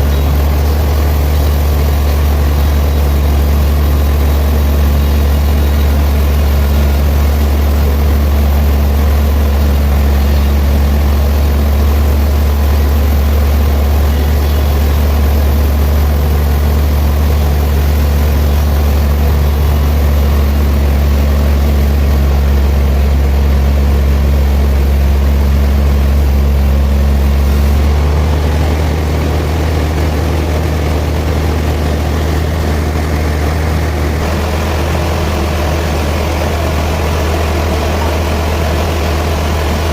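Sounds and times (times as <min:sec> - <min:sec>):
sawmill machinery humming and whirring: 0:00.0 - 0:39.9.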